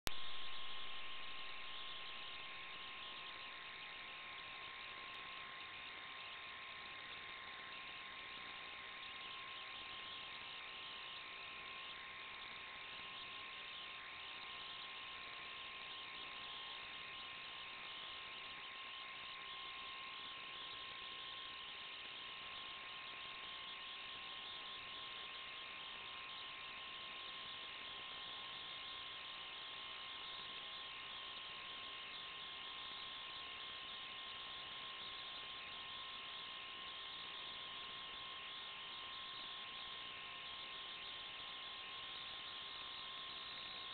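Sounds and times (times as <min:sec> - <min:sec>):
electronic static hiss: 0:00.1 - 0:43.9
thin whine: 0:00.1 - 0:43.9.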